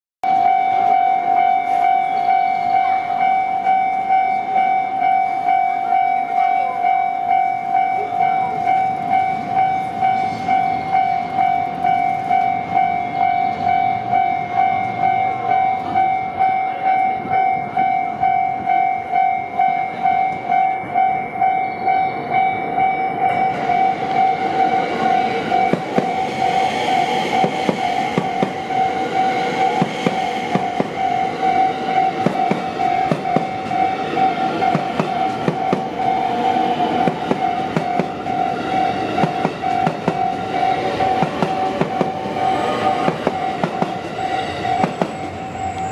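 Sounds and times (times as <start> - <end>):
electric train running noise: 0.2 - 45.9
level-crossing bell dinging: 0.2 - 45.9.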